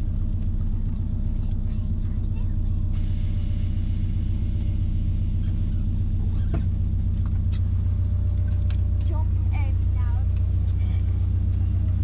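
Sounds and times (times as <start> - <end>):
pickup engine drone: 0.0 - 12.0
road and wind noise: 0.0 - 12.0.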